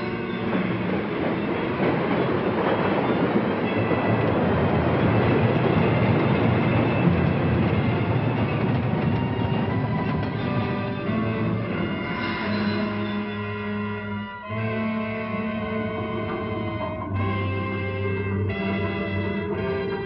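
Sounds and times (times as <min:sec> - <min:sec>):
cartoon speeding train rumble: 0:00.0 - 0:20.0.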